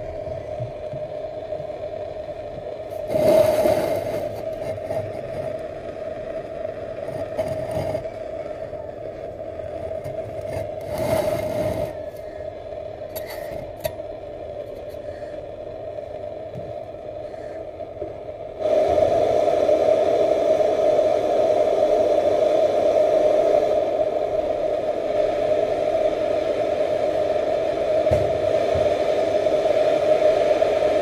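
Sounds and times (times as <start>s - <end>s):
torch flame hissing: 0.0s - 31.0s.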